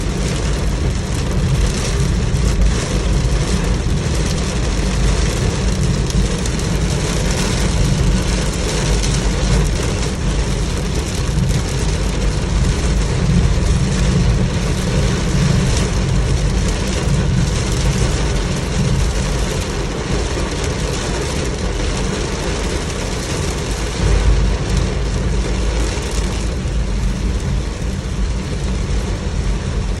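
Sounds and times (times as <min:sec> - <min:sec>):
car rumbling: 0:00.0 - 0:30.0.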